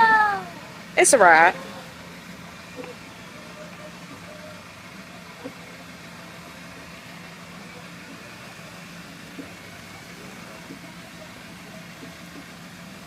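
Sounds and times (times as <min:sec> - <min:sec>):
ride vehicle engine humming: 0:00.0 - 0:13.0.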